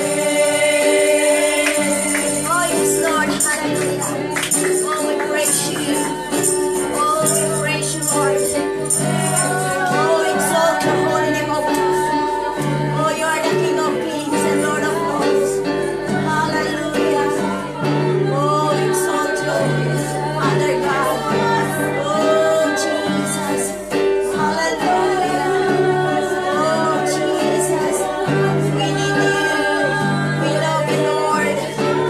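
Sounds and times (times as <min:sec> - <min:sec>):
instrumental accompaniment: 0:00.0 - 0:32.0
woman singing into microphone: 0:00.0 - 0:32.0.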